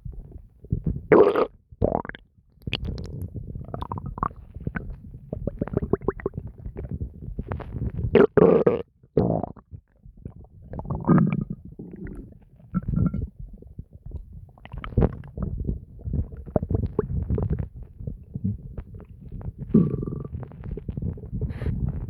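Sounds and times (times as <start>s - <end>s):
stomach gurgling: 0.0s - 22.0s.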